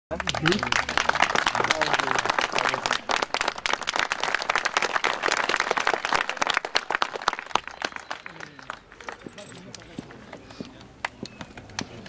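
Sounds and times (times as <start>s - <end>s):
small group applauding: 0.1s - 10.0s.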